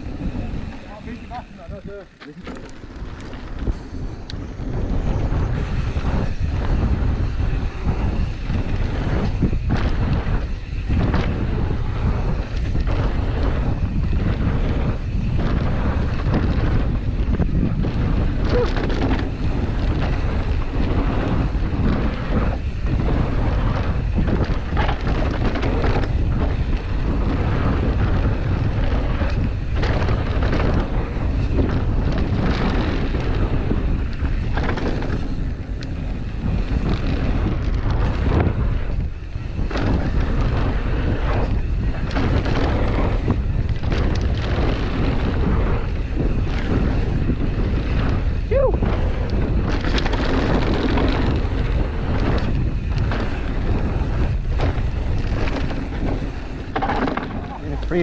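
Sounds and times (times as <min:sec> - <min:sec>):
bike knocks and rattles: 0:00.0 - 0:58.0
tyre noise on dirt: 0:00.0 - 0:58.0
wind on microphone: 0:00.0 - 0:58.0.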